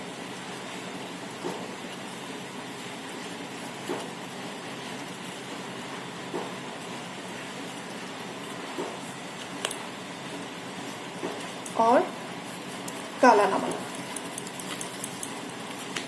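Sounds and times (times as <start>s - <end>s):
pan of water boiling: 0.0s - 16.0s.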